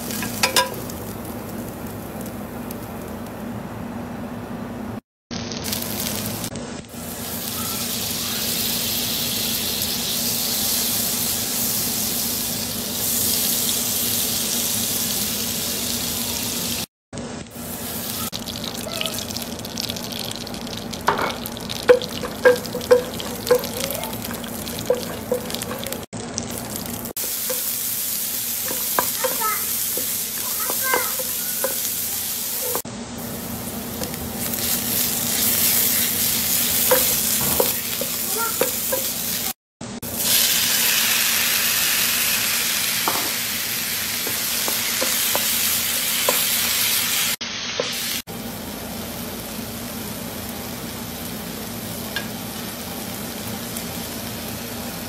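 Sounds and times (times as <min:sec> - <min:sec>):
onions sizzling in oil: 0:00.0 - 0:03.4, 0:05.3 - 0:55.0.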